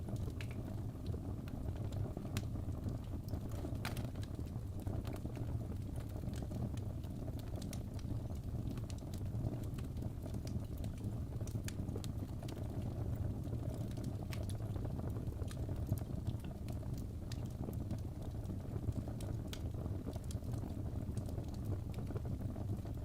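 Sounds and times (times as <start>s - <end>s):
fire burning: 0.0s - 23.0s
fire crackling and popping: 0.0s - 23.0s.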